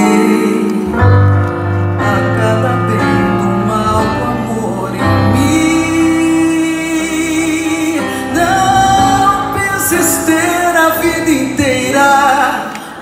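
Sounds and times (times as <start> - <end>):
instrumental accompaniment: 0.0 - 12.9
person singing: 0.0 - 13.0.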